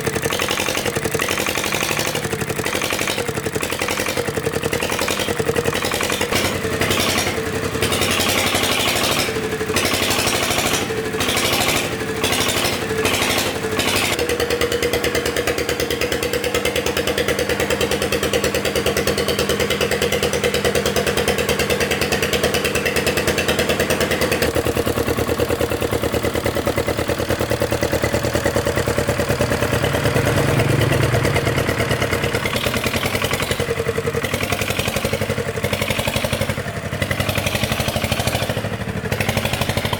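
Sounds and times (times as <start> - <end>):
old vehicle engine running: 0.0 - 39.9.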